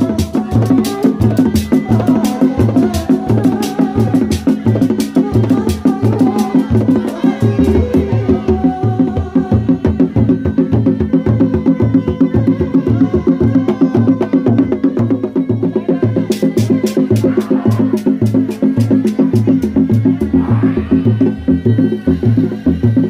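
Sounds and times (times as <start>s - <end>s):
hand-struck drums rhythm: 0.0s - 23.0s.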